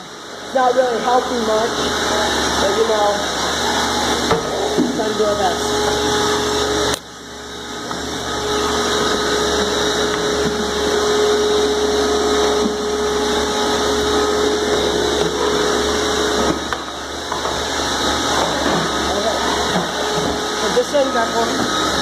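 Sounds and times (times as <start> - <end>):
wet vacuums running: 0.0 - 22.0.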